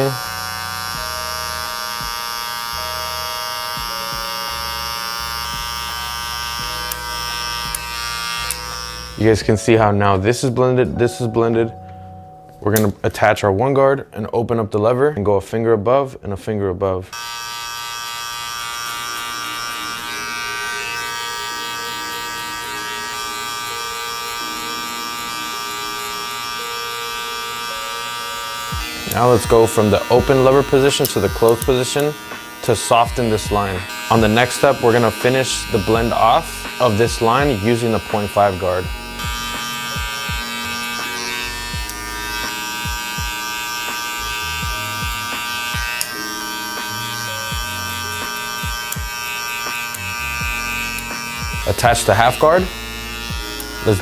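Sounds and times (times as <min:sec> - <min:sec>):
hair clipper humming: 0:00.0 - 0:09.6, 0:17.1 - 0:54.0.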